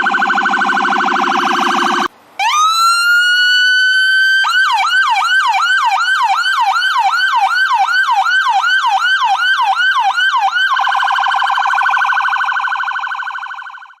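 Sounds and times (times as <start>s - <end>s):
ambulance siren: 0.0s - 14.0s.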